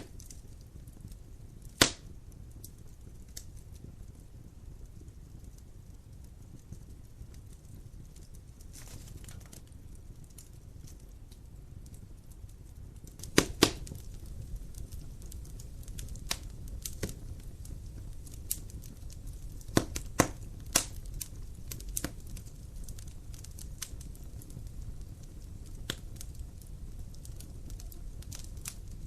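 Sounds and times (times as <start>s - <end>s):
sharp pops from fire: 0.0s - 29.0s
wood fire crackling: 0.0s - 29.0s.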